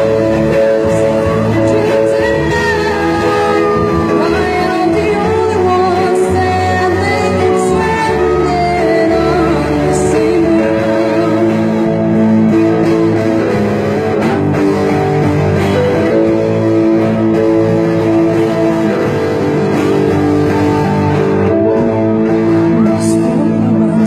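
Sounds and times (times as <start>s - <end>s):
guitar melody: 0.0s - 24.0s
live band playing: 0.0s - 24.0s.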